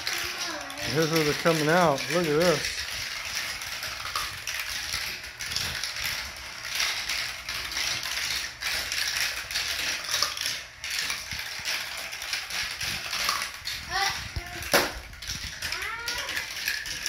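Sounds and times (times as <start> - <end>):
chain elevator rattling: 0.0 - 17.0
marbles rolling on plastic track: 0.0 - 17.0.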